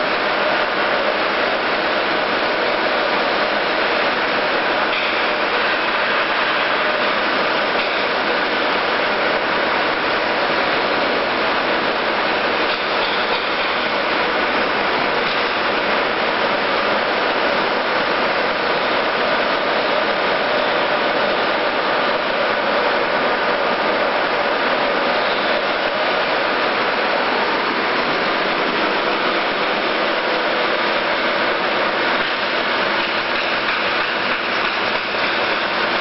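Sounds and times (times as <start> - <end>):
blowers and conveyor whirring: 0.0 - 36.0.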